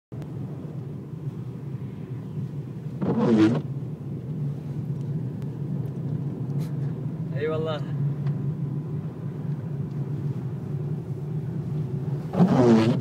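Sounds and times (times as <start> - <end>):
car driving low rumble: 0.1 - 13.0.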